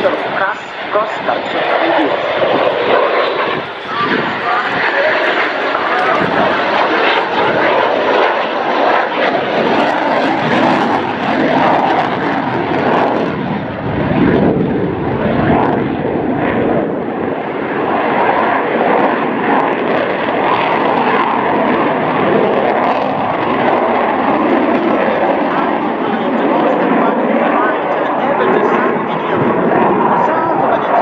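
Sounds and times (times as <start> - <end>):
jet aircraft rushing noise: 0.0 - 31.0.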